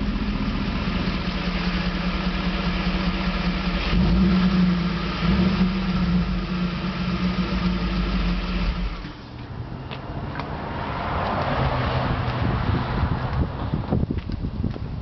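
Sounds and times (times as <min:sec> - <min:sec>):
engine exhaust low rumble: 0:00.0 - 0:09.1, 0:12.0 - 0:15.0.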